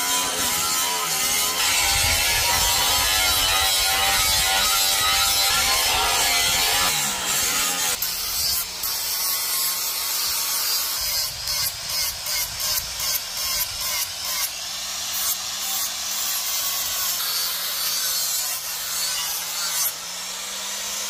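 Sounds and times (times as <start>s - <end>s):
angle grinder cutting steel: 0.0s - 21.0s.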